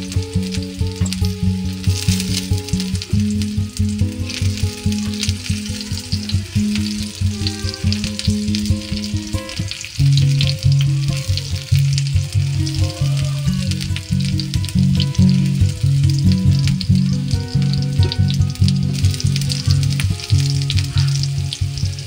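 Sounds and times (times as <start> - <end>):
background music with bass line: 0.0 - 22.0
oil sizzling and crackling: 0.0 - 22.0.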